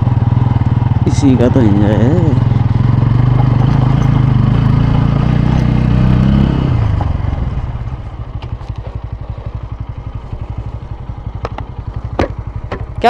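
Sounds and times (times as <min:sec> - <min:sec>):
motorcycle engine climbing: 0:00.0 - 0:13.0.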